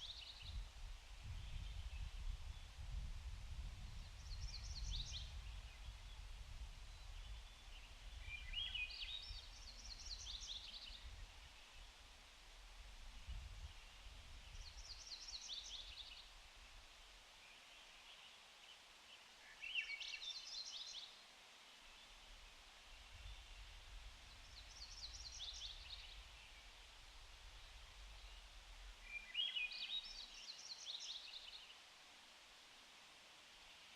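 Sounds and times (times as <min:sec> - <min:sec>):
songbird singing: 0:00.0 - 0:12.0, 0:13.3 - 0:16.8, 0:17.4 - 0:31.8.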